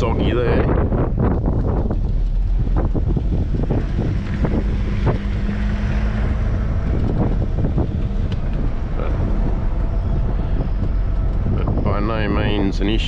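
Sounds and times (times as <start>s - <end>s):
engine and tyre rumble: 0.0s - 13.0s
knocks and rattles over bumps: 0.0s - 13.0s.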